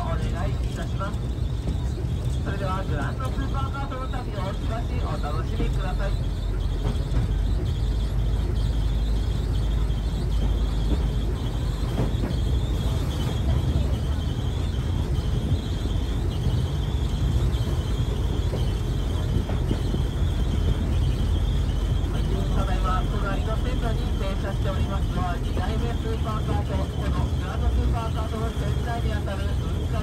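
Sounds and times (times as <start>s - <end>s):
high wavering whine: 0.0s - 30.0s
rail cart wheels rumbling: 0.0s - 30.0s.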